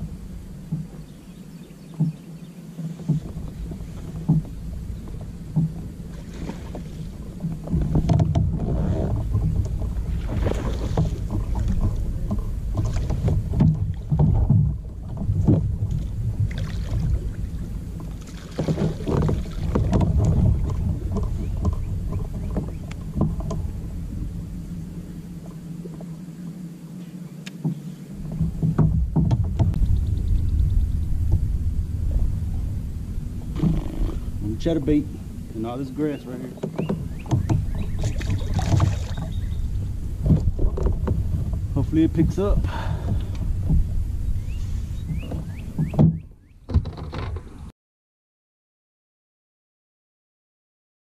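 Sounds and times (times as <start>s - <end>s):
water splashing and sloshing: 0.0s - 47.7s
gear knocking against hull: 2.8s - 24.4s, 27.6s - 47.5s.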